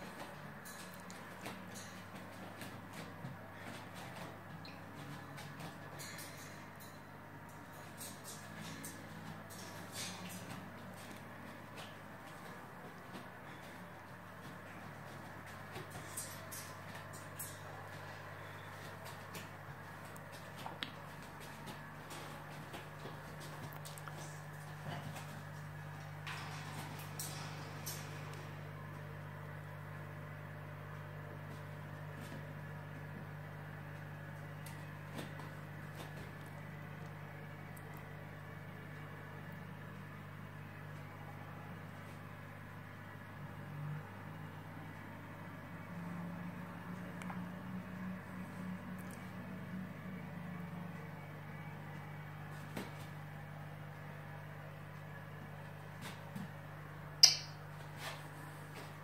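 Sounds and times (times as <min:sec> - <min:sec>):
aquarium pump humming: 0:00.0 - 0:59.0.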